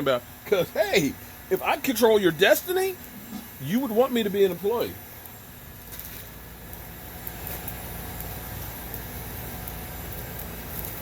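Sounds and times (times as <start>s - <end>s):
gas burner rumbling: 0.0s - 11.0s.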